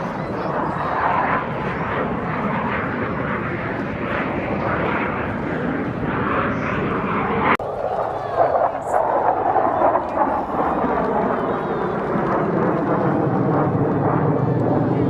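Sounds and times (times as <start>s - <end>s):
airplane engine flying past: 0.0s - 15.0s.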